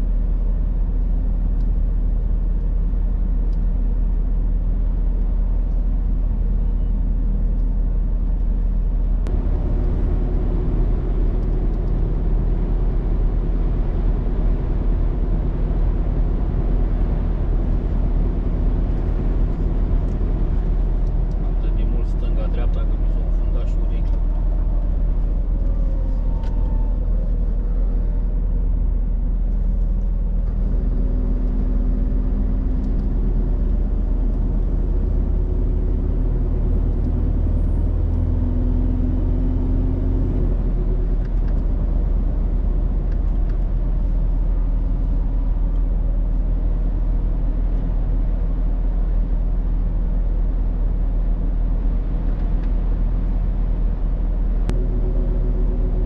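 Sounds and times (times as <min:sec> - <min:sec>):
road rumble: 0:00.0 - 0:56.0
truck engine drone: 0:00.0 - 0:56.0.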